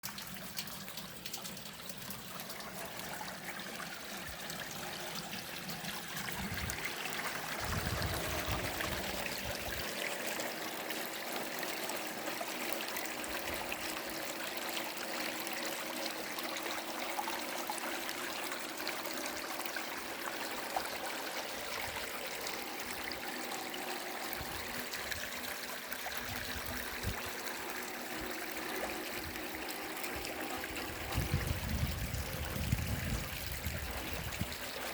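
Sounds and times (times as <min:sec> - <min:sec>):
stream trickling: 0:00.0 - 0:34.9.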